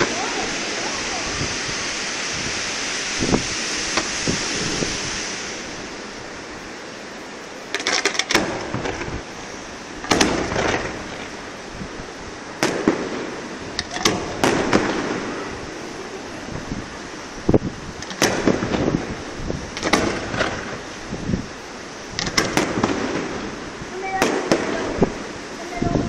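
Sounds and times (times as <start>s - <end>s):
firework shells bursting with bangs: 0.0s - 11.7s, 12.4s - 17.2s, 17.9s - 21.0s, 21.8s - 25.4s
crackling hiss of fireworks: 0.0s - 26.0s.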